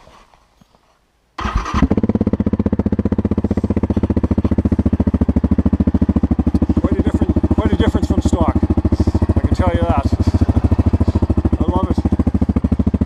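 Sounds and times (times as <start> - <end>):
atv engine idling: 1.4 - 13.0.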